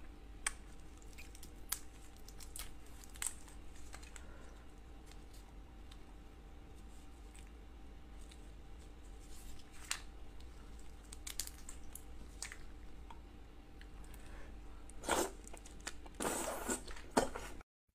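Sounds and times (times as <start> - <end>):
peeling and chewing shrimp: 0.1 - 17.6.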